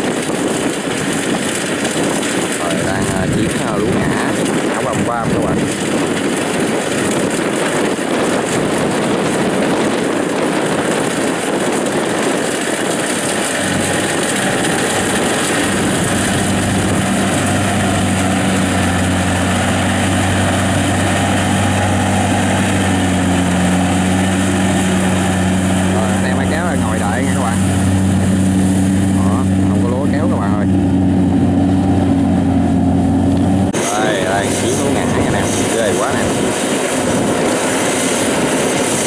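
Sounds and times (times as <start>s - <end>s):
combine harvester running: 0.0s - 39.0s
low engine hum: 0.0s - 39.0s.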